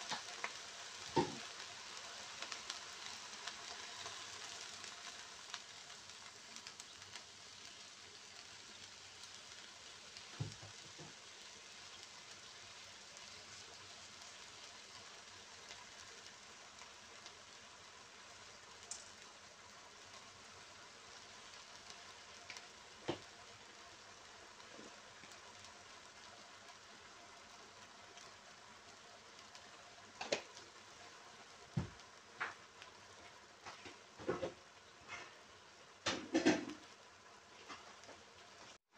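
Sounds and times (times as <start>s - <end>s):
food sizzling in a wok: 0.0s - 38.9s.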